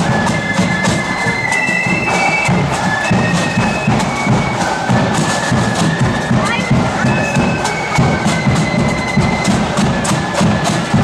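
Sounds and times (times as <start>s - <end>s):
high wind instruments melody: 0.0s - 11.0s
marching drum beat: 0.0s - 11.0s.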